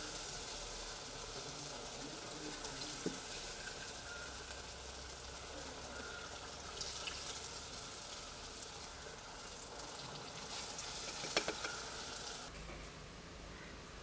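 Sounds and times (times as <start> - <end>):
fritters deep-frying in oil: 0.0 - 12.5.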